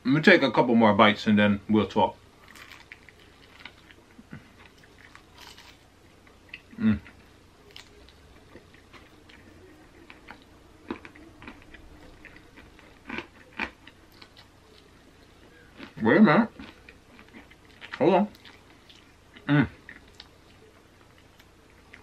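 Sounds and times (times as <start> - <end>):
man chewing and lip smacking: 2.6 - 16.0, 16.6 - 22.0.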